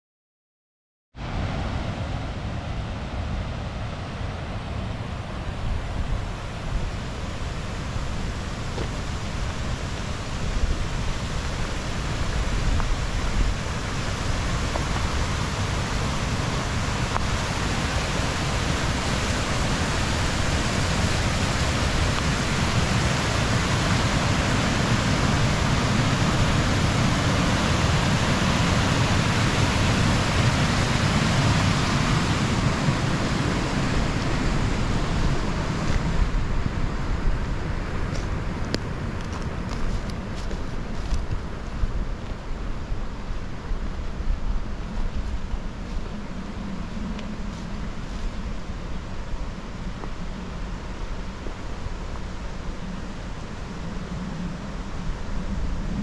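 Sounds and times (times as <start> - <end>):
river rushing over rocks: 1.2 - 56.0.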